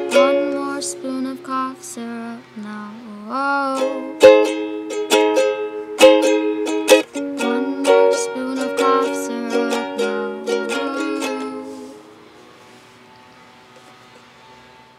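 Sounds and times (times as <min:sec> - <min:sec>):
ukulele strumming chords: 0:00.0 - 0:12.3.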